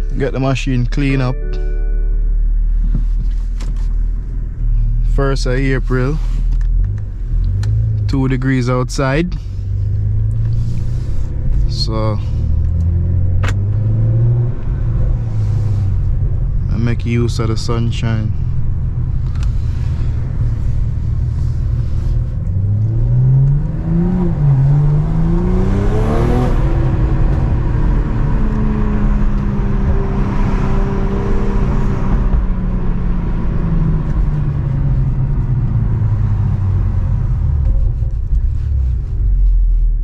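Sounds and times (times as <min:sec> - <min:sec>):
car engine accelerating: 0:00.0 - 0:40.0
low road rumble: 0:00.0 - 0:40.0.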